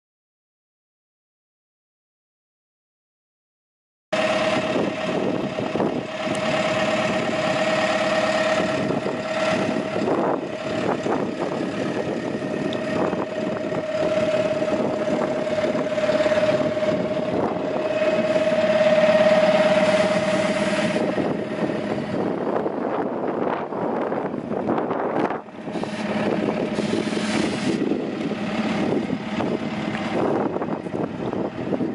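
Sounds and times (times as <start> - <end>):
steady hum: 4.2 - 31.4
diesel truck engine idling: 4.2 - 31.9.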